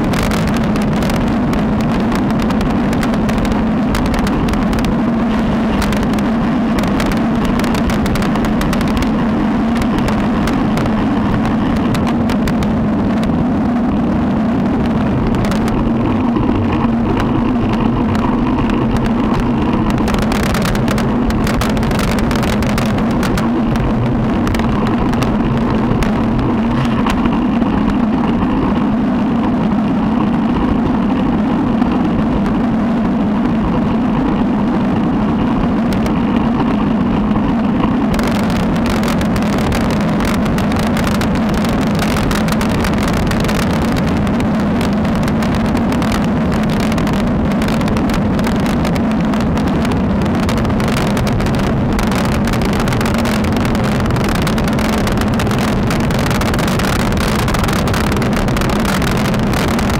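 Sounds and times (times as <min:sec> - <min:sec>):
bike tyres on road: 0:00.0 - 0:59.9
wind rushing over microphone: 0:00.0 - 0:59.9.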